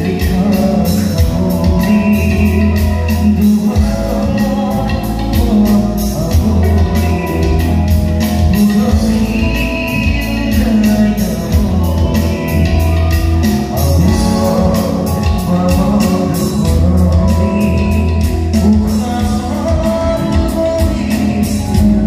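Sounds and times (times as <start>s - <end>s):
live pop band playing: 0.0s - 22.0s
man singing: 0.0s - 22.0s.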